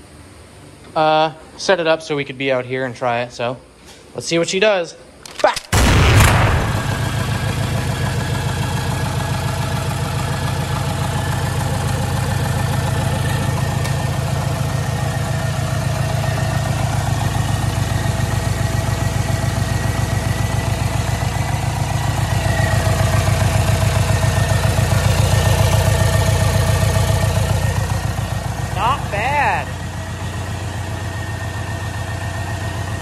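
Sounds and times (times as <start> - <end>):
diesel engine idling: 5.8 - 33.0.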